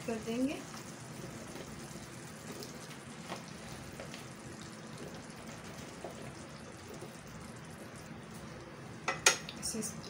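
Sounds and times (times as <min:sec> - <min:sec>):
gravy sizzling in a pan: 0:00.0 - 0:10.0.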